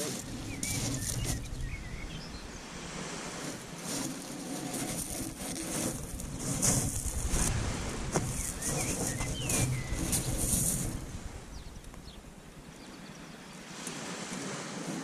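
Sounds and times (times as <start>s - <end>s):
small waves washing on beach: 0.0s - 15.0s
surf surging: 0.0s - 15.0s
wind rumbling on microphone: 0.0s - 15.0s.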